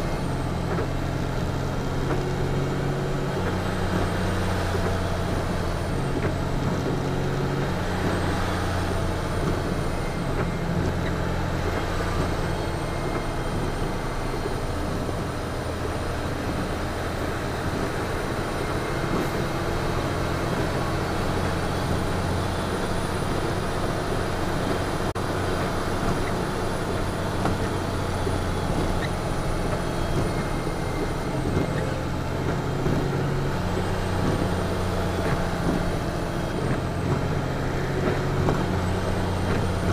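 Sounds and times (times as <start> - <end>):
diesel truck engine running: 0.0 - 39.9
tyre and road noise: 0.0 - 39.9.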